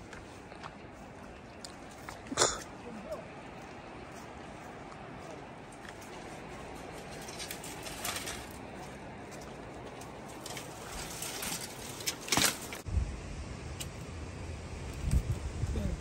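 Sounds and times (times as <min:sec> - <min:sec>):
dry twigs rustling and crackling: 0:00.0 - 0:12.9.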